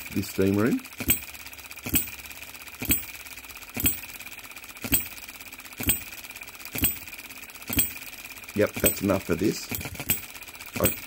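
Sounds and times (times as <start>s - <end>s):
faint rapid ticking: 0.0s - 11.0s.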